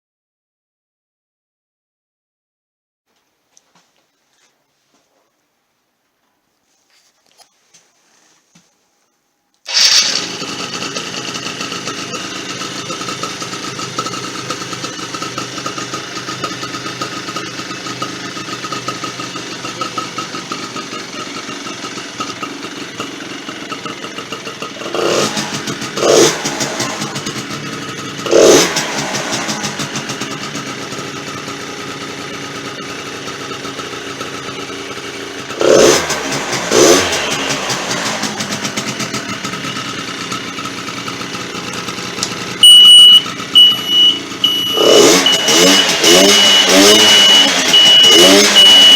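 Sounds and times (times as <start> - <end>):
small engine starting and idling: 9.6 - 48.9
engine revving: 9.7 - 48.9.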